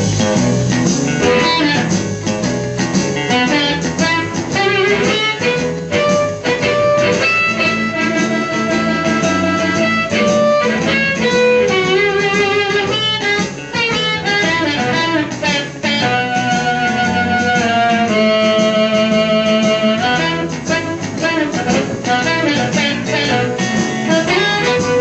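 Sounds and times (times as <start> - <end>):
amplified blues harmonica: 0.0 - 25.0
backing track with guitar: 0.0 - 25.0.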